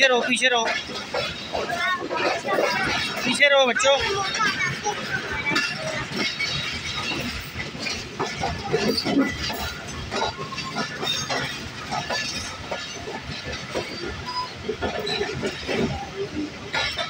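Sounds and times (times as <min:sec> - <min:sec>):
train rumble: 0:00.0 - 0:17.0
wheels clacking over rail joints: 0:00.0 - 0:17.0.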